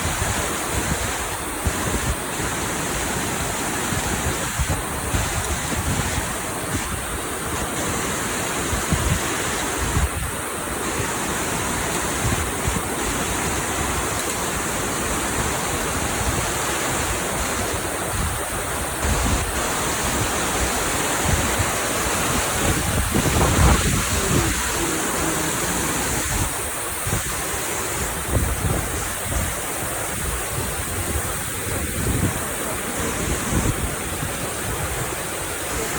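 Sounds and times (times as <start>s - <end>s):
waterfall rushing: 0.0s - 35.9s
wind buffeting microphone: 0.0s - 35.9s.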